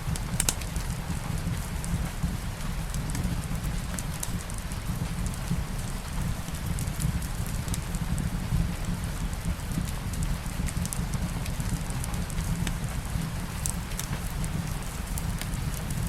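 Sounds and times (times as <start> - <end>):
fireplace fire crackling: 0.0 - 16.0
light rain hissing: 0.0 - 16.0.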